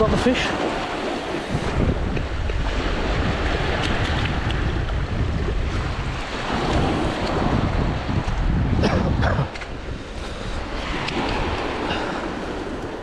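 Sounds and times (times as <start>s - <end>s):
waves splashing against rocks: 0.0s - 13.0s
wind buffeting microphone: 0.0s - 13.0s.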